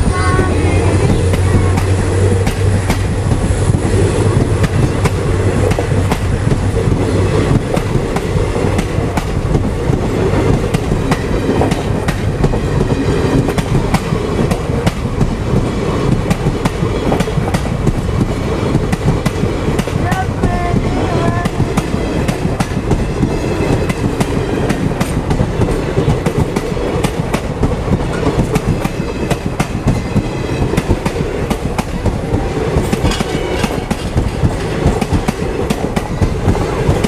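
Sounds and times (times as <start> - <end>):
train coaches rumbling past: 0.0 - 37.0
wheels clicking over rail joints: 0.0 - 37.0.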